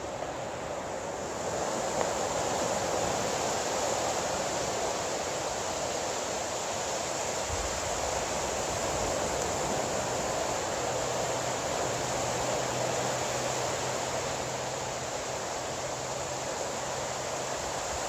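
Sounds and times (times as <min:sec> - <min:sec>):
ocean surf on a beach: 0:00.0 - 0:18.0.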